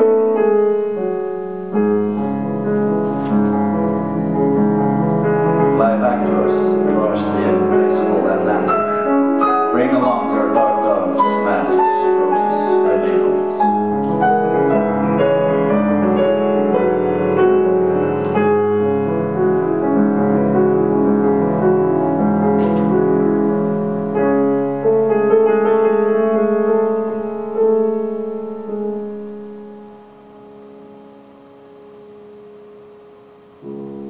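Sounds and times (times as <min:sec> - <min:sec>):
grand piano playing: 0:00.0 - 0:34.0.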